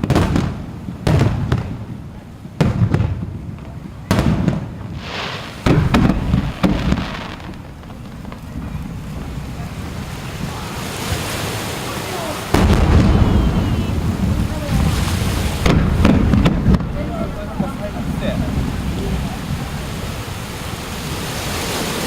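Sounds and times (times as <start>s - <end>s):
crackling hiss of fireworks: 0.0s - 22.0s
fireworks booming: 0.0s - 22.0s.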